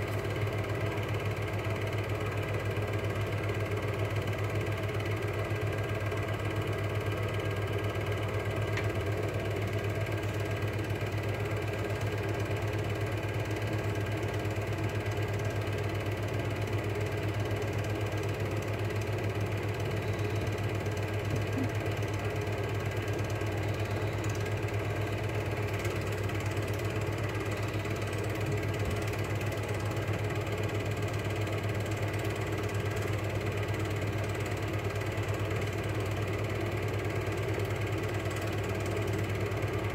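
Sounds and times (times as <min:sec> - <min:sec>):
film projector whirr and clatter: 0:00.0 - 0:39.9
low motor hum: 0:00.0 - 0:39.9.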